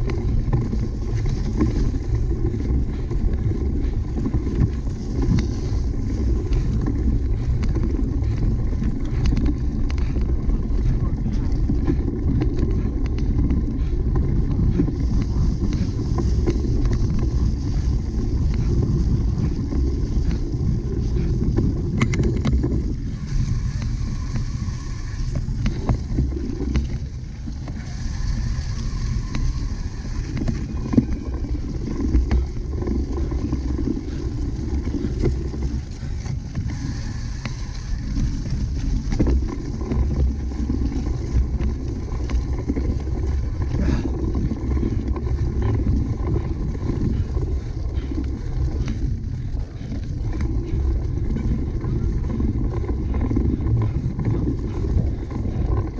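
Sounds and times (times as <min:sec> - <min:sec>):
bike clicks and rattles: 0:00.0 - 0:55.9
wind rumble on microphone: 0:00.0 - 0:55.9.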